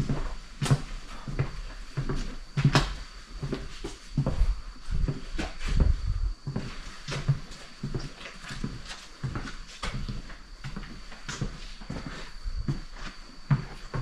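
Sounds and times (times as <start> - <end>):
footsteps on hard floor: 0.0 - 14.0.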